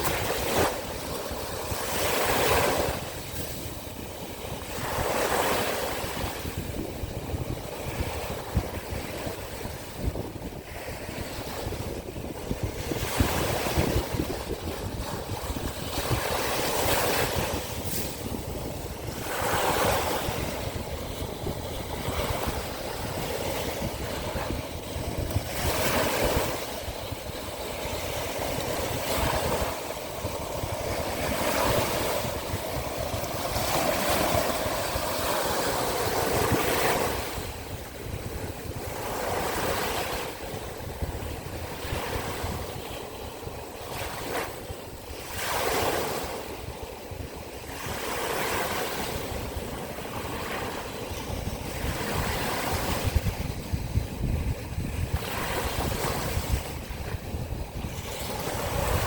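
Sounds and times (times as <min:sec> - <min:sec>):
sea waves washing ashore: 0:00.0 - 0:59.0
wind rumble on microphone: 0:00.0 - 0:59.0.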